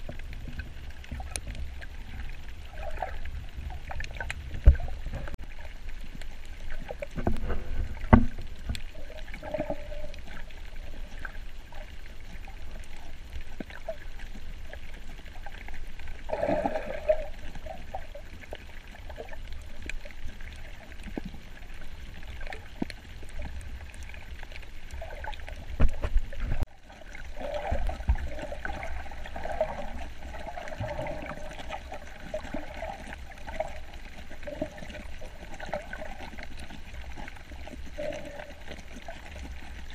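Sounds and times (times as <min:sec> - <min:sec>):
gurgling bubbles: 0:00.0 - 0:39.9
muffled underwater rumble and hiss: 0:00.0 - 0:39.9.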